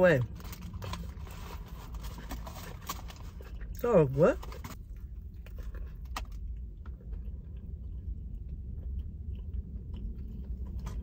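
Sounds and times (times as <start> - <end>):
steady low hum: 0.0 - 11.0
person chewing food: 0.5 - 3.8, 4.4 - 11.0.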